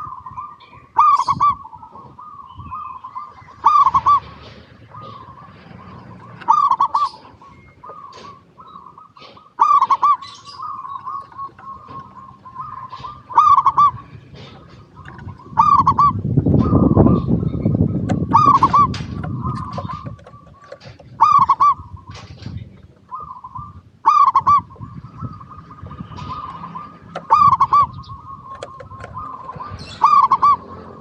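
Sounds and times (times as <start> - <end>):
low rumbling noise: 0.0 - 9.6, 10.3 - 31.0
dove cooing: 0.0 - 31.0.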